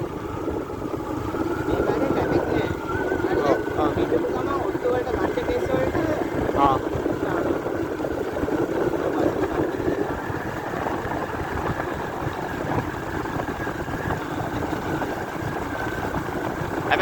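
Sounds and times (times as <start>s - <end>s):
motorbike engine running: 0.0s - 17.0s
wind noise on microphone: 0.0s - 17.0s.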